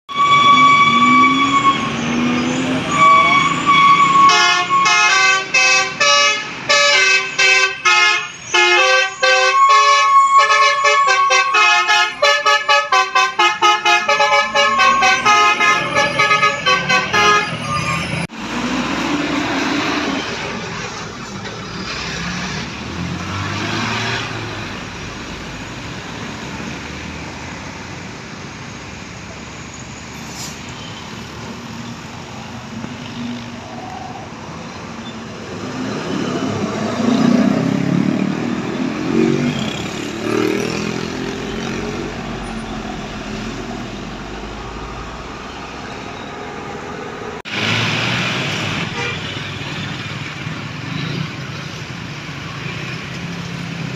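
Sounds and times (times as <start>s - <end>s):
vehicles driving past: 10.6s - 53.9s.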